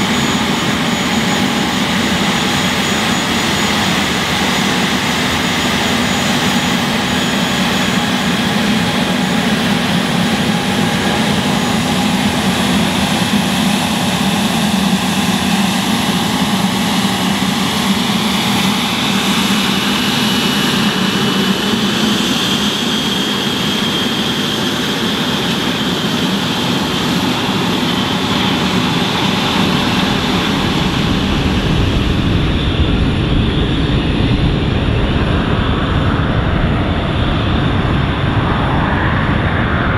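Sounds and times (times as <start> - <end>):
jet engine whine: 0.0 - 39.9
low jet rumble: 0.0 - 39.9.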